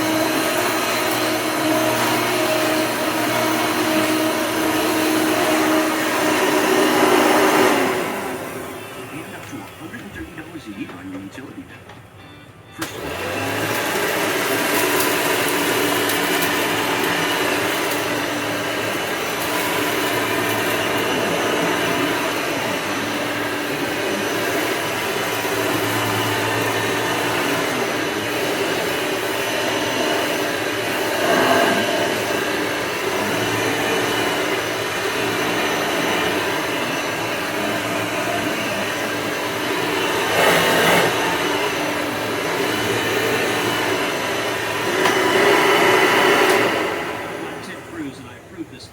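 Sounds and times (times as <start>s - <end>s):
upright vacuum cleaner running: 0.0s - 48.8s.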